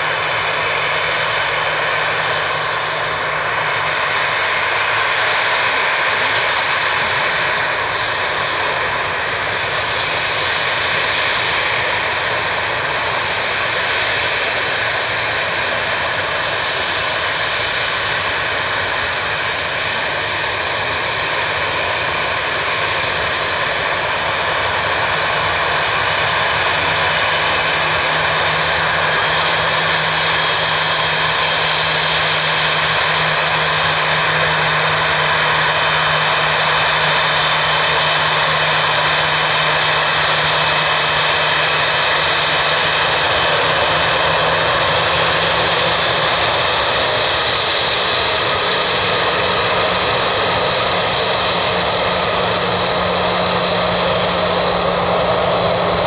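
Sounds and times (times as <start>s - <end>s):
jet engines running with high whine: 0.0s - 56.0s.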